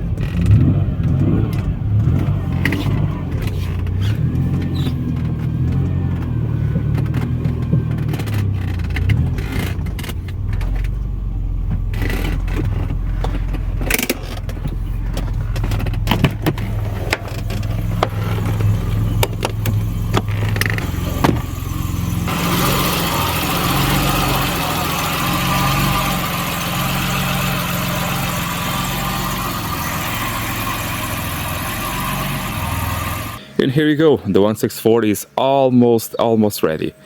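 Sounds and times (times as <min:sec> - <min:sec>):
sharp clicks and knocks: 0:00.0 - 0:30.1
car engine running: 0:00.0 - 0:33.6.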